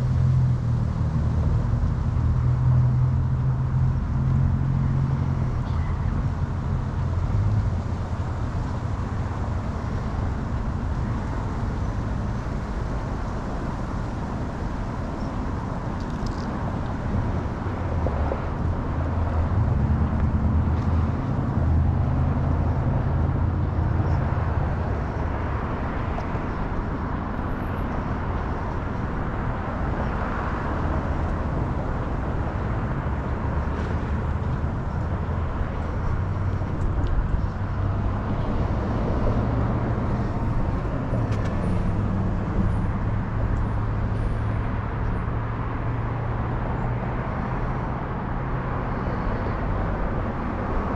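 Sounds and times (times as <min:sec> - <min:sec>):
car engine hum: 0:00.0 - 0:50.9
tyre and road noise: 0:00.0 - 0:50.9.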